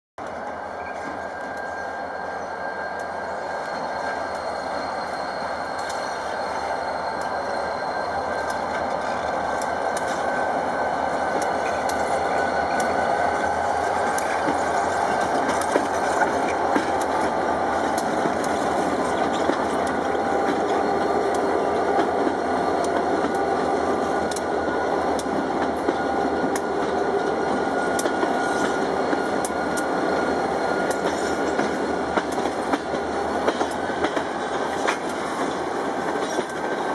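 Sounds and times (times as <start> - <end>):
diesel locomotives passing: 0.2 - 36.9
wheels clicking on rails: 0.2 - 36.9.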